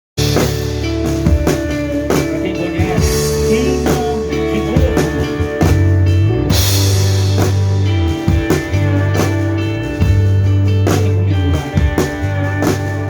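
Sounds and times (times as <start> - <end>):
drum kit hits: 0.2 - 13.0
live rock band playing: 0.2 - 13.0.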